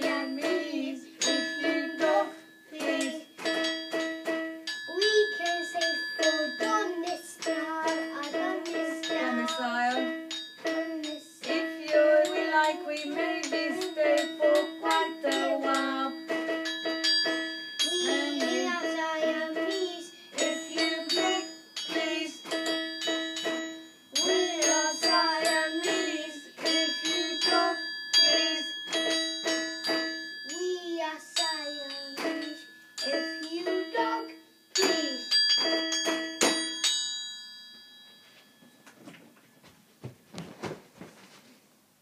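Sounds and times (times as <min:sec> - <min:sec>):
toy keyboard melody: 0:00.0 - 0:36.4
metal triangle ringing: 0:00.0 - 0:39.0.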